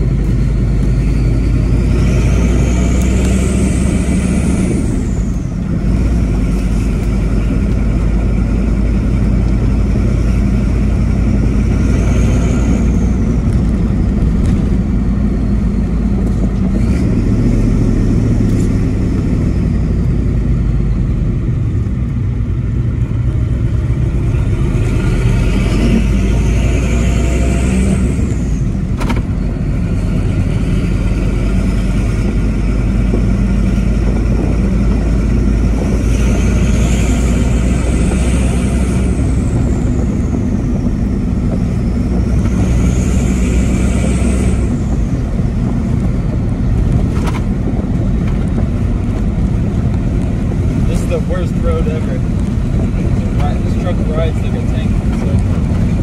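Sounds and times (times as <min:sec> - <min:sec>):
diesel engine accelerating: 0:00.0 - 0:56.0.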